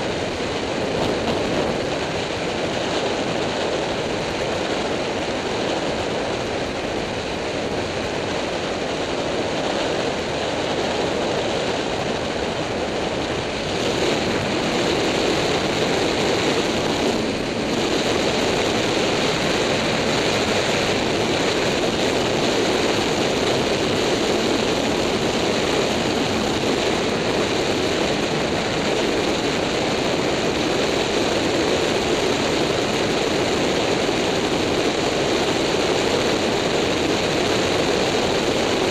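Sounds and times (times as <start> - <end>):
motorcycle wind and riding noise: 0.0 - 38.9.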